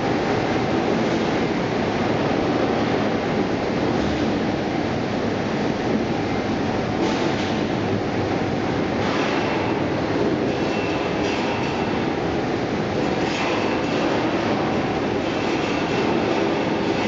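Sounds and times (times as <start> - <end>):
production line machinery din: 0.0 - 17.0.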